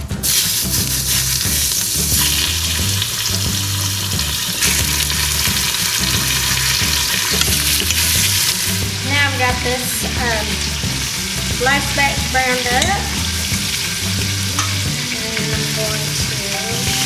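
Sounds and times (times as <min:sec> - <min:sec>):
meat sizzling in hot oil: 0:00.1 - 0:17.0.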